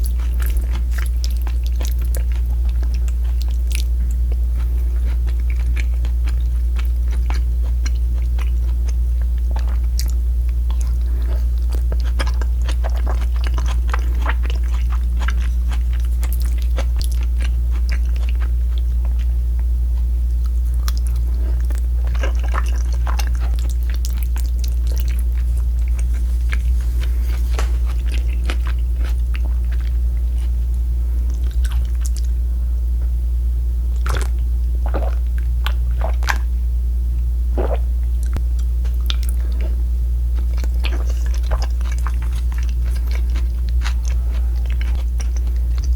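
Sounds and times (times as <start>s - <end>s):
chewing and crunching food: 0.0s - 32.4s, 33.9s - 36.5s, 37.6s - 45.9s
steady low hum: 0.0s - 45.9s.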